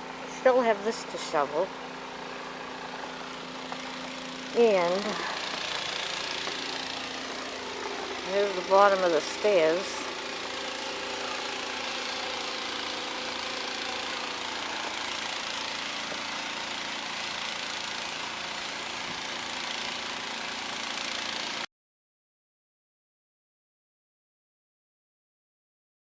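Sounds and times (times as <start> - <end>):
engine idling: 0.0 - 21.7.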